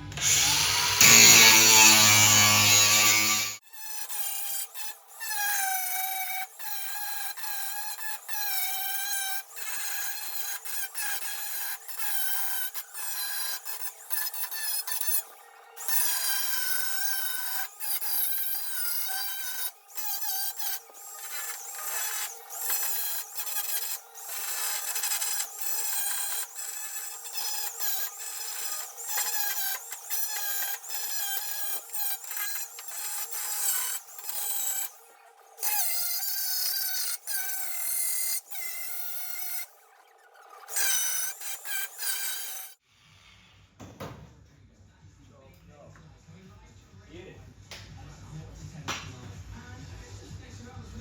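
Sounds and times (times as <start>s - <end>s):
angle grinder grinding metal: 0.0s - 42.8s.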